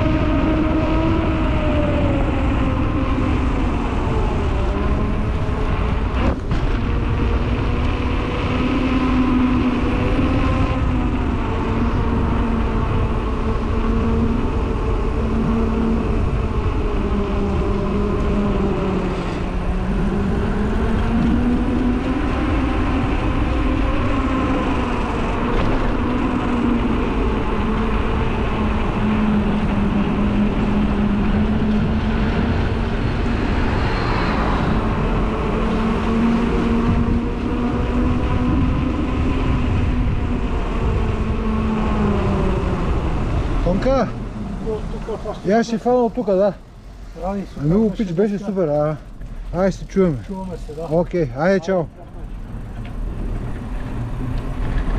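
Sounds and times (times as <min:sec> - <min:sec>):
bicycle rolling on asphalt: 0:00.0 - 0:54.9
wind rumble on microphone: 0:00.0 - 0:54.9.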